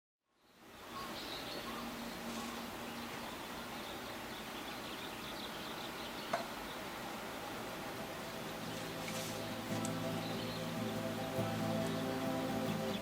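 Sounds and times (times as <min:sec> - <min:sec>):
faint high bird chirps: 0:00.3 - 0:06.9, 0:08.1 - 0:13.0
steady forest hiss: 0:00.3 - 0:13.0.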